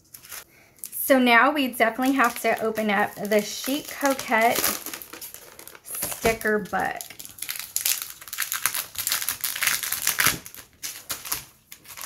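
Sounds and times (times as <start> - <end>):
cellophane sleeve crinkling: 0.0 - 1.0, 1.8 - 12.0.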